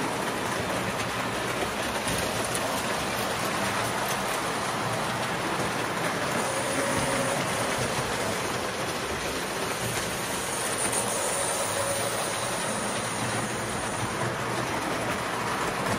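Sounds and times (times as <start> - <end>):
toy train rattling on metal track: 0.0 - 15.9.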